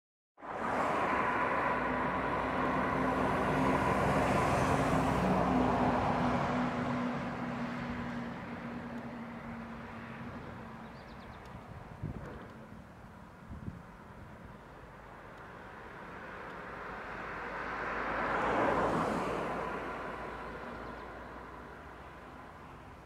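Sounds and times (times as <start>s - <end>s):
vehicle passing: 0.4s - 11.4s, 15.5s - 23.0s.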